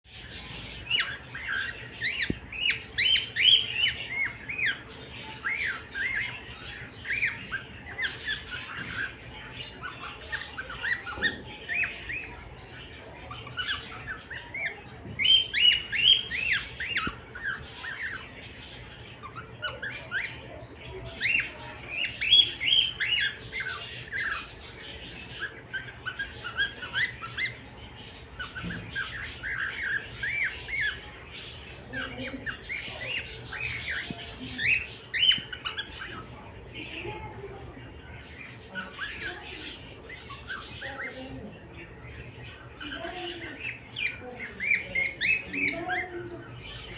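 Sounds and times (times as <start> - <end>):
cockatiel chirping and squawking: 0.1 - 36.3, 38.2 - 46.9.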